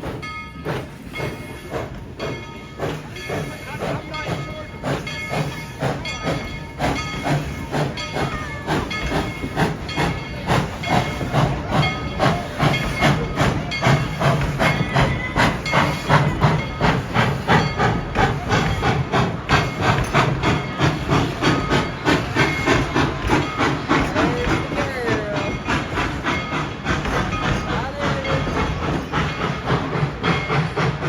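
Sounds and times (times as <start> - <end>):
steam locomotive chuffing: 0.0 - 31.0.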